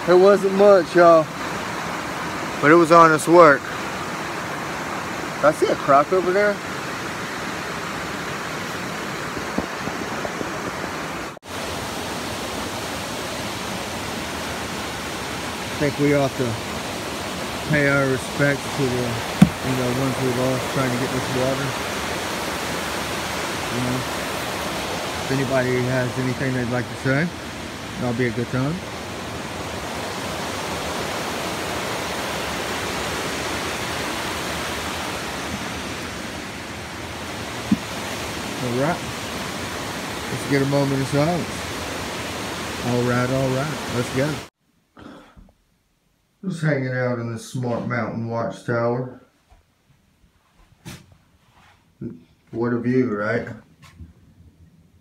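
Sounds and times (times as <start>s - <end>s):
river water rushing: 0.0s - 44.5s.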